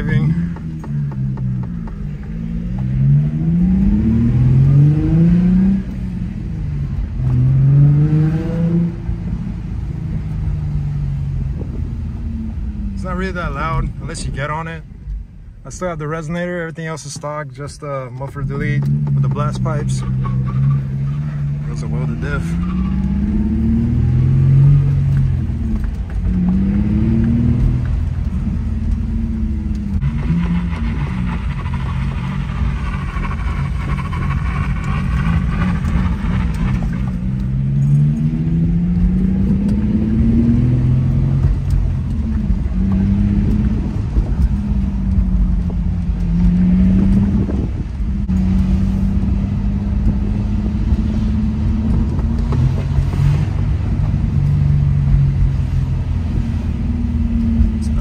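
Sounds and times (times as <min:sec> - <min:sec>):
car engine accelerating: 0:00.0 - 0:58.0
exhaust rumble: 0:00.0 - 0:58.0.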